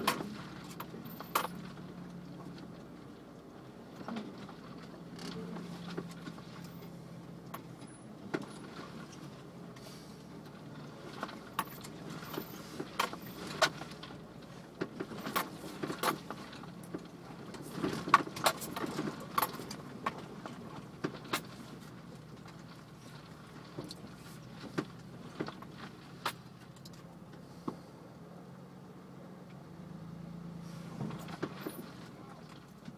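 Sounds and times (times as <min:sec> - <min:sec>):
body rattles and knocks: 0:00.0 - 0:27.4
engine running low: 0:00.0 - 0:32.9.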